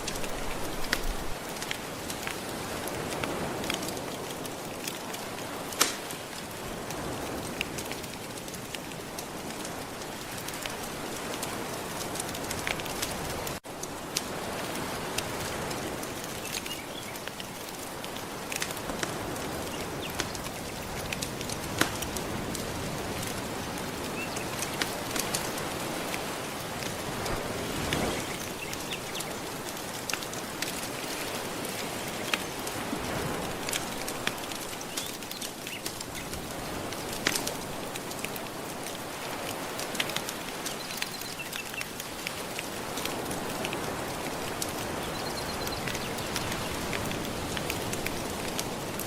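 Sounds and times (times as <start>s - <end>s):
gentle ocean waves: 0.0s - 49.0s
wood fire crackling: 0.0s - 49.0s.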